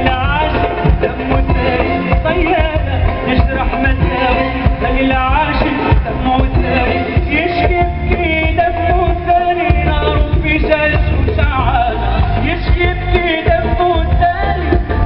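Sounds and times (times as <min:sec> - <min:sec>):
man singing: 0:00.0 - 0:15.0
pop band playing: 0:00.0 - 0:15.0
steady low drum beat: 0:00.0 - 0:15.0.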